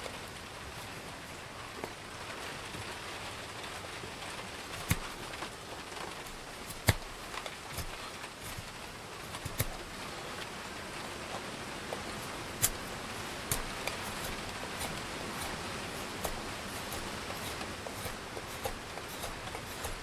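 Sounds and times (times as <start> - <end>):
heavy rain: 0.0 - 20.0
knife shaving wood: 0.0 - 20.0
wind: 0.0 - 20.0.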